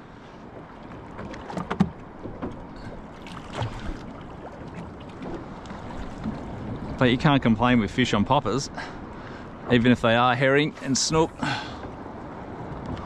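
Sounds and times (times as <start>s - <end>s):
light wind: 0.0s - 13.0s
water lapping against boat hull: 0.0s - 13.0s.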